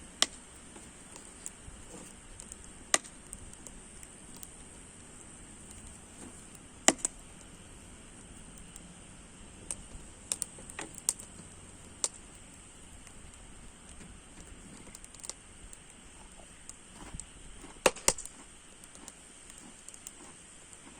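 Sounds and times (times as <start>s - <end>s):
faint steady hiss: 0.0s - 20.9s
firewood crackling and popping: 0.0s - 20.9s.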